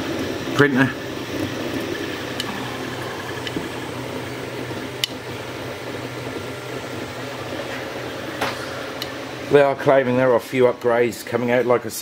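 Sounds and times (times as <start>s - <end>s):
cooling fans whirring: 0.0s - 12.0s.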